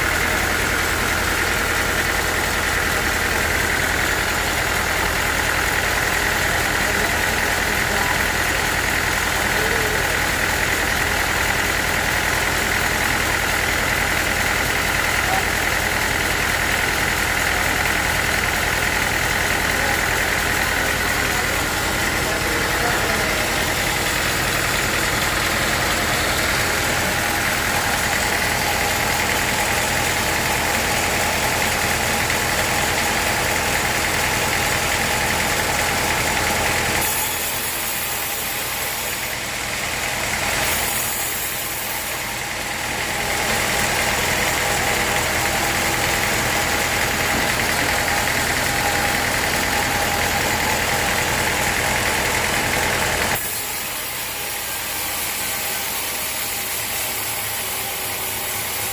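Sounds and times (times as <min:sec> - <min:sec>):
machinery engine running: 0:00.0 - 0:58.9.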